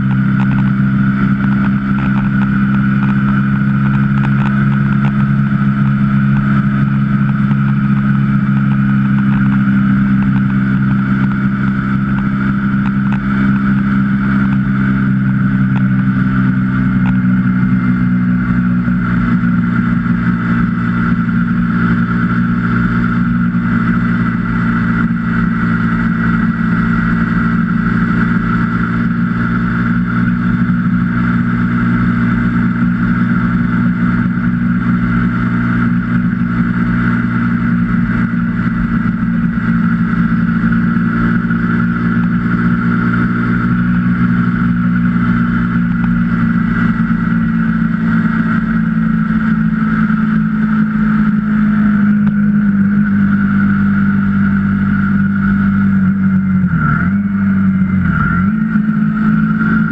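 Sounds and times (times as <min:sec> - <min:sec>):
motorcycle engine cruising: 0:00.0 - 0:59.9
road noise: 0:00.0 - 0:59.9.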